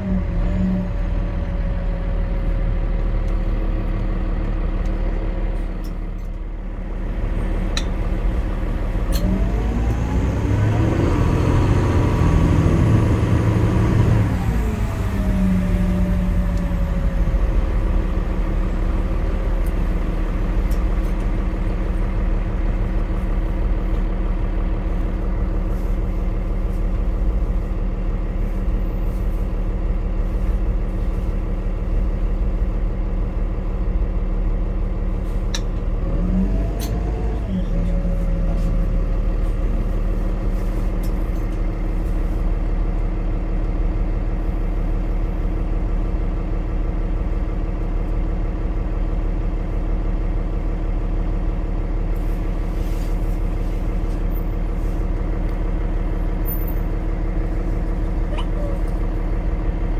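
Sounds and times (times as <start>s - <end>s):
bus accelerating whine: 0.0s - 59.9s
bus engine drone: 0.0s - 59.9s.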